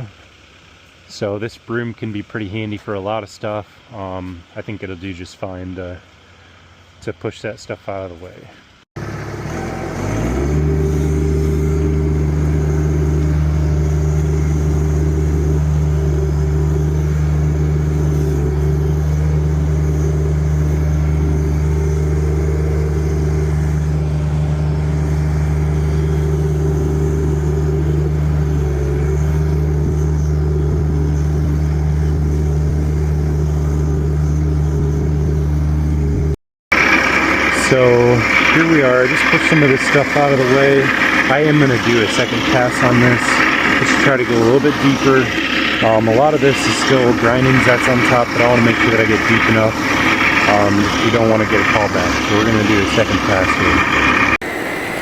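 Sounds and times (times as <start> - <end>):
loader engine running under load: 9.0 - 55.0.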